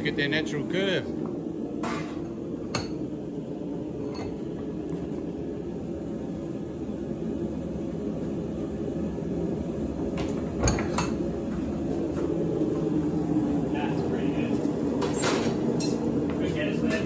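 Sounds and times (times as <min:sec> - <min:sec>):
low drone of forge: 0:00.0 - 0:17.0.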